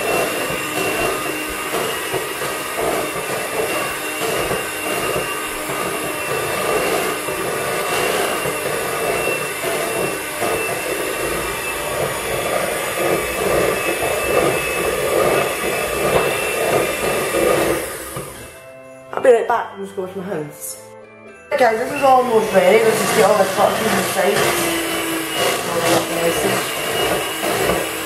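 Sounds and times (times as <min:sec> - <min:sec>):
beaters churning batter: 0:00.0 - 0:18.6, 0:21.7 - 0:28.0
electric hand mixer whine: 0:00.0 - 0:19.0, 0:21.5 - 0:28.0.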